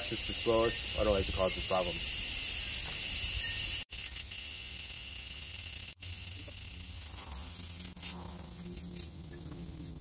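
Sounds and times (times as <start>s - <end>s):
air hissing from tire deflators: 0.0s - 10.0s.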